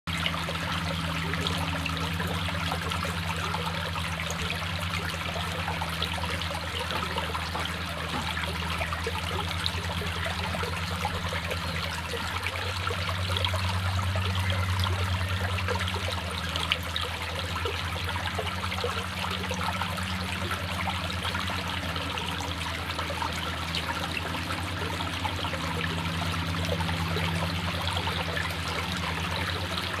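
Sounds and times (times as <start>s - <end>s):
brook trickling over stones: 0.1s - 30.0s
low hum: 0.1s - 30.0s.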